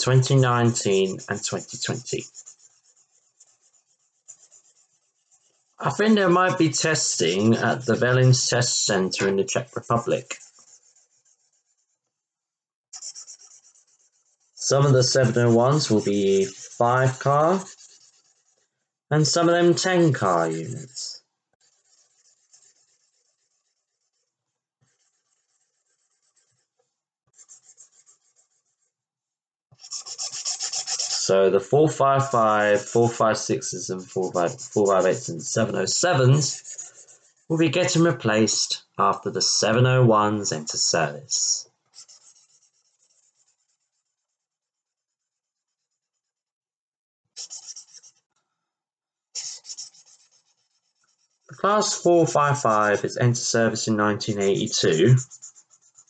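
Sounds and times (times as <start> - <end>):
pen scratching on paper: 0.0 - 12.0, 13.0 - 28.9, 29.8 - 38.6, 41.9 - 46.2, 47.4 - 48.3, 49.4 - 56.0.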